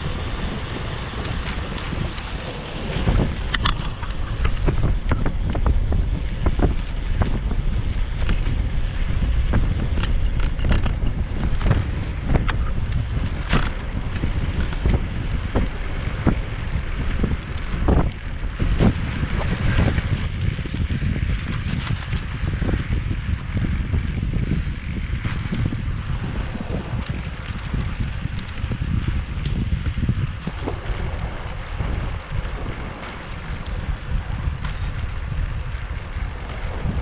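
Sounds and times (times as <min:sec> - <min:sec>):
bike knocks and rattles: 0:00.0 - 0:37.0
wind buffeting microphone: 0:00.0 - 0:37.0.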